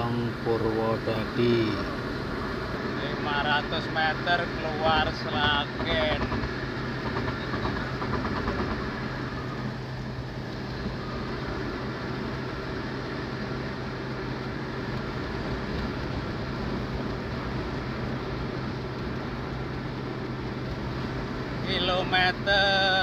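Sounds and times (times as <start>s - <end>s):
car engine and tyre hum: 0.0s - 23.0s.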